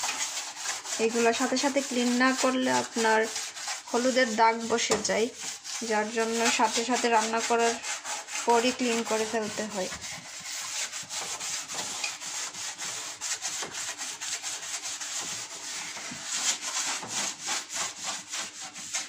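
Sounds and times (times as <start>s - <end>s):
scouring pad scrubbing stovetop: 0.0s - 19.0s.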